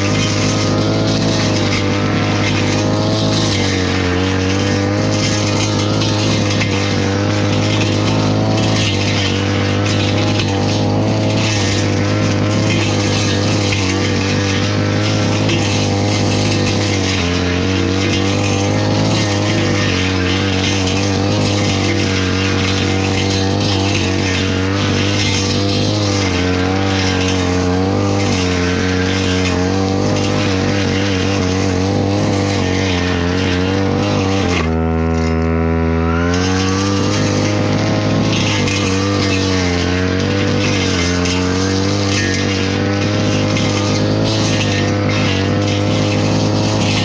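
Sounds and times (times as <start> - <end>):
brush cutter engine at high revs: 0.0 - 47.0.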